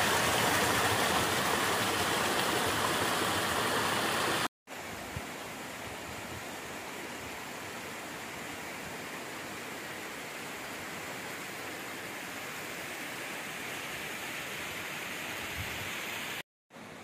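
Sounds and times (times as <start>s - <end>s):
waterfall rushing over rocks: 0.0s - 16.4s.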